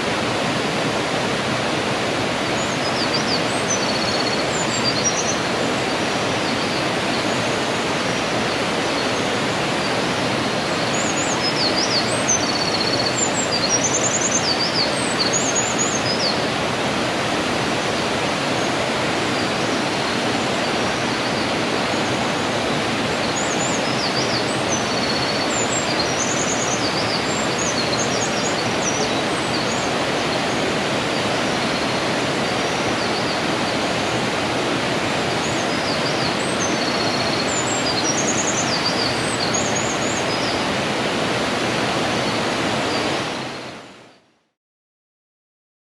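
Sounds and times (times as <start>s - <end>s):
stream rushing: 0.0s - 44.2s.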